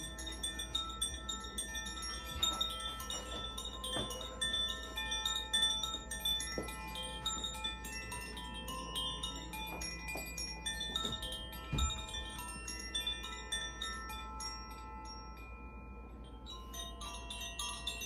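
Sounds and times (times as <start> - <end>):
chimes ringing: 0.0 - 18.0.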